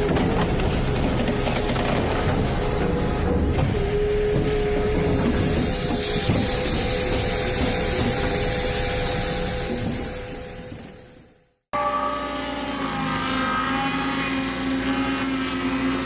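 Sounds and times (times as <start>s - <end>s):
machine hissing and whining: 1.8s - 11.1s, 11.8s - 16.0s.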